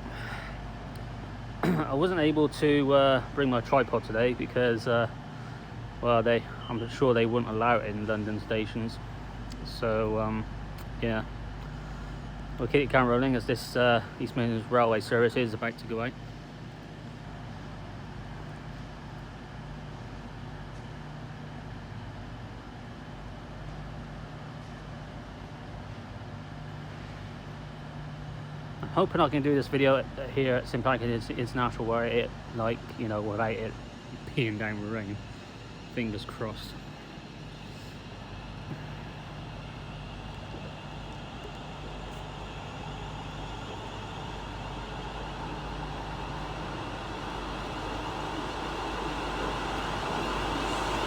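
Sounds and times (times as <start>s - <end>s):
train engine idling hum: 0.0s - 51.0s.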